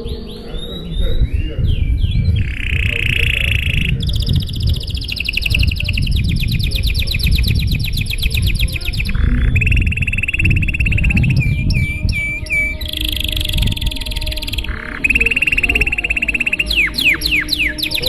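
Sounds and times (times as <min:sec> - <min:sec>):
canary singing trills: 0:00.0 - 0:18.0
low background rumble: 0:00.0 - 0:18.0.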